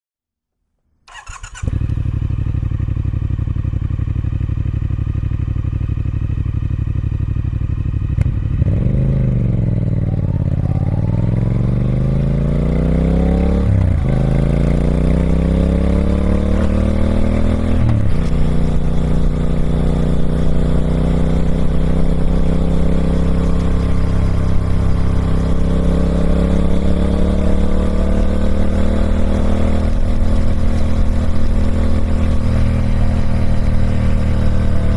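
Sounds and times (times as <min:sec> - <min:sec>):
motorcycle engine accelerating: 0:01.1 - 0:34.9.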